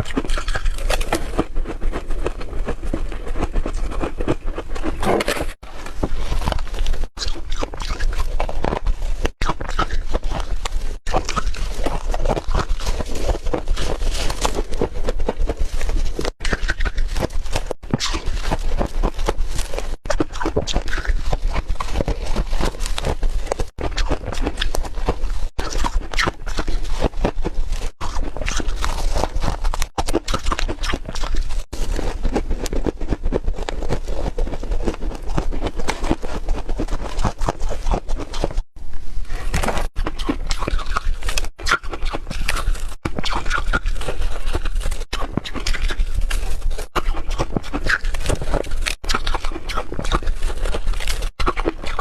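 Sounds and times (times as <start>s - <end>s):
person crunching ice: 0.0s - 52.0s.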